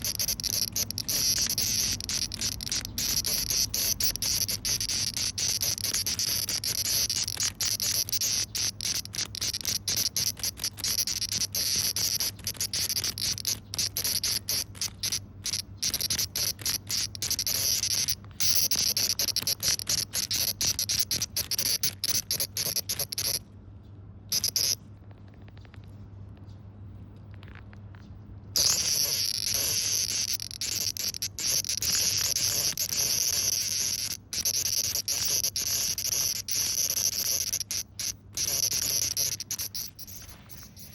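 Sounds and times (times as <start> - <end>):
cicada buzzing in stuttering bursts: 0.0 - 23.4, 24.3 - 24.8, 28.6 - 40.9.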